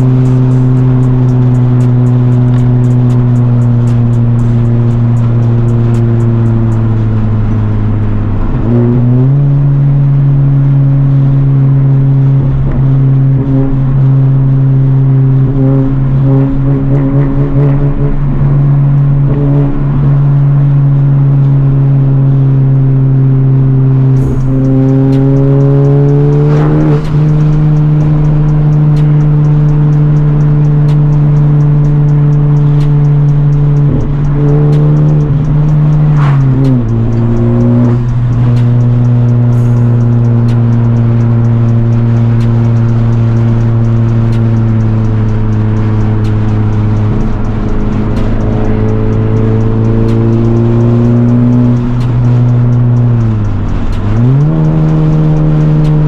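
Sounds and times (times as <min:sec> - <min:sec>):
car engine and exhaust drone: 0:00.0 - 0:56.0.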